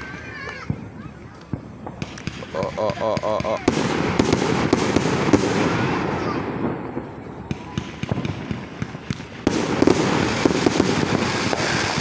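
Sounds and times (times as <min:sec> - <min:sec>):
fireworks popping and banging: 0:00.4 - 0:12.0.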